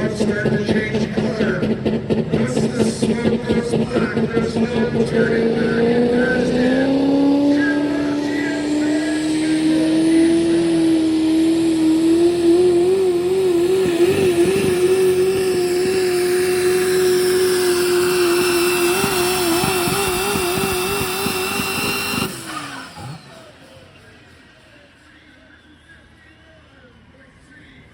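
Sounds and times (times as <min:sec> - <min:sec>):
truck engine at full throttle: 0:00.0 - 0:27.9.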